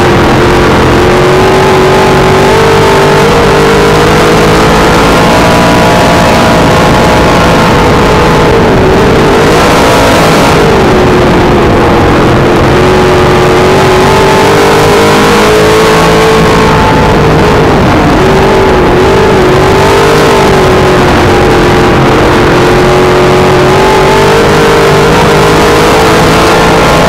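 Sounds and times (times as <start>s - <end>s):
race car engine at speed: 0.0s - 27.0s.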